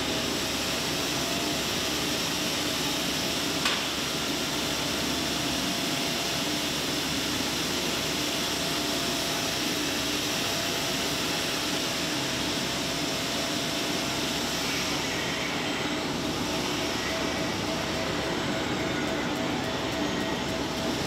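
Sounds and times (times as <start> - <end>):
constant hum: 0.0 - 21.0
electric shop machinery running: 0.0 - 21.0.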